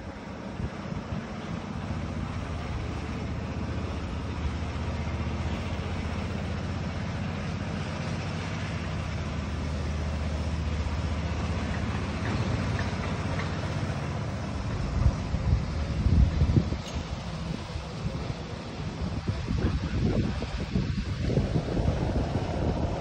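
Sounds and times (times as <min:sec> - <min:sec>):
outdoor rumble and hiss: 0:00.0 - 0:23.0.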